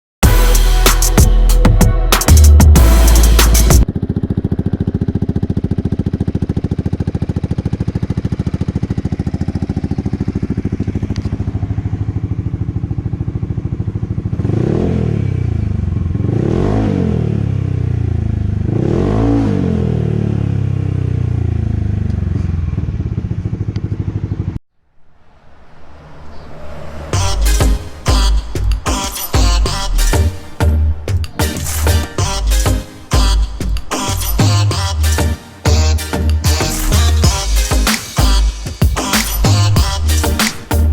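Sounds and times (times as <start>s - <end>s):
scooter engine idling and revving: 2.3s - 24.6s, 25.4s - 40.9s.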